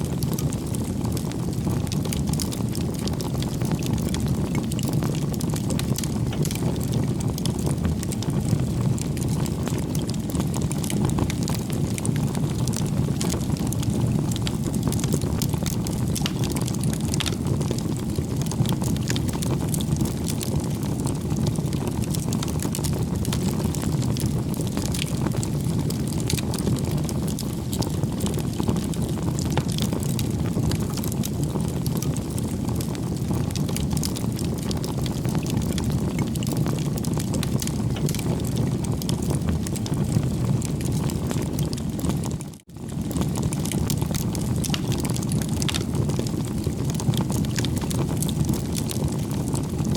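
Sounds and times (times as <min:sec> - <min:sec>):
campfire crackling and popping: 0:00.1 - 0:49.9.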